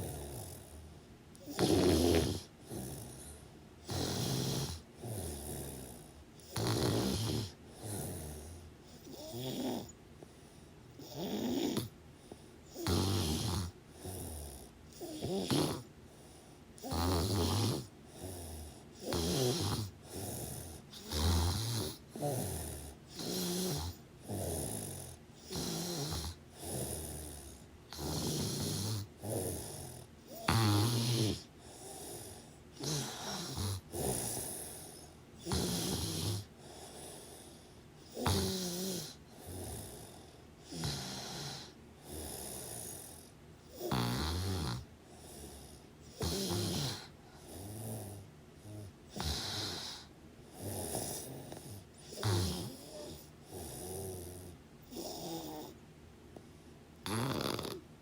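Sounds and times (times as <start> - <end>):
person snoring: 0.0 - 10.0, 11.0 - 55.8, 57.0 - 57.8.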